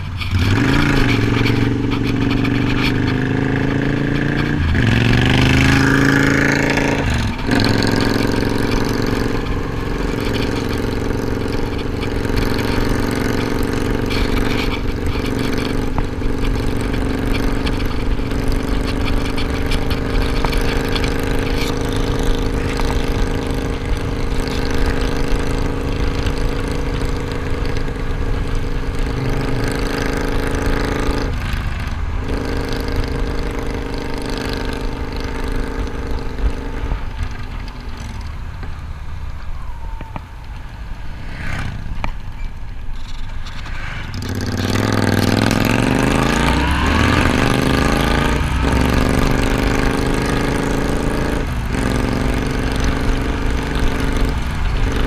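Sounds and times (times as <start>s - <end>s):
motorcycle engine revving: 0.0s - 38.9s, 40.6s - 55.0s.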